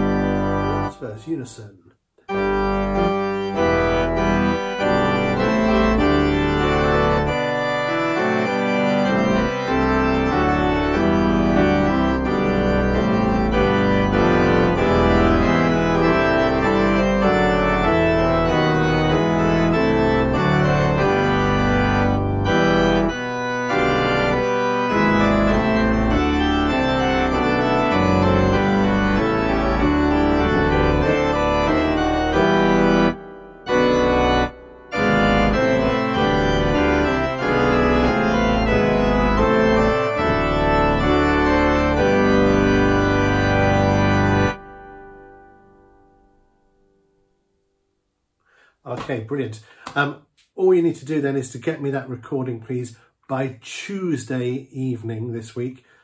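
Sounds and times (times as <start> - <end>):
organ playing hymn chords: 0.0 - 47.1.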